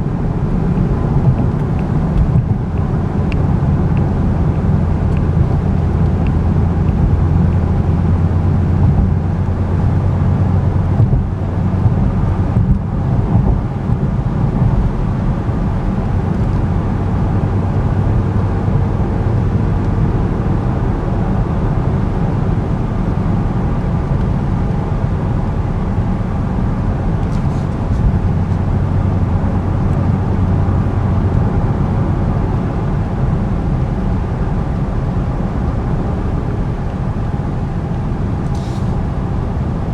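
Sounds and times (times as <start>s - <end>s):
car engine humming: 0.0s - 39.9s
tyre and road noise: 0.0s - 39.9s.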